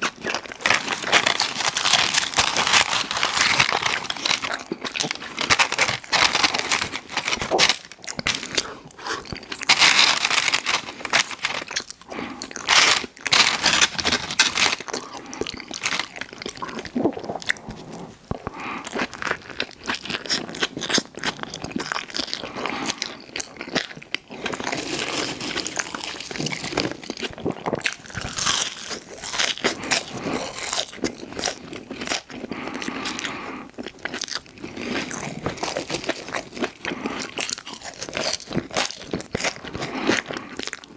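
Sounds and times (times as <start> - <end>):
crunchy bites and chewing: 0.0 - 40.9
food crackling: 0.0 - 40.9.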